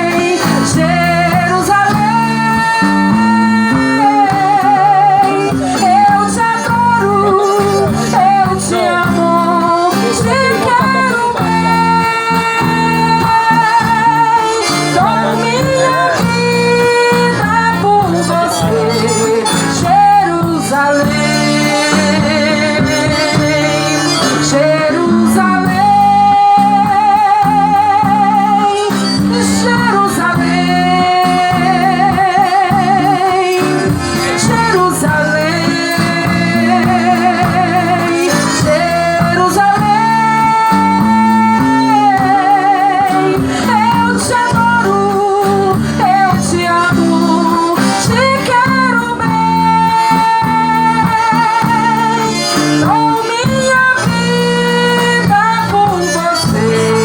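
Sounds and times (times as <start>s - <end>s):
instrumental gospel band music: 0.0s - 57.0s.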